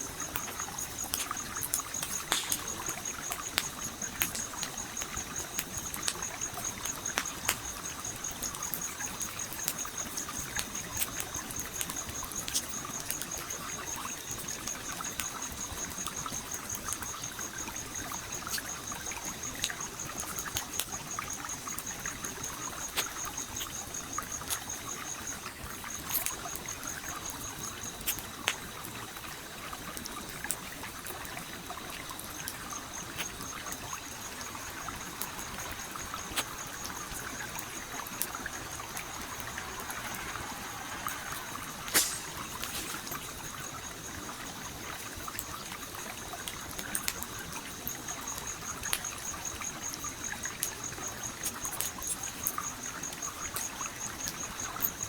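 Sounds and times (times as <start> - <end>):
campfire crackling and popping: 0.0 - 55.0
small stream trickling: 0.0 - 55.0.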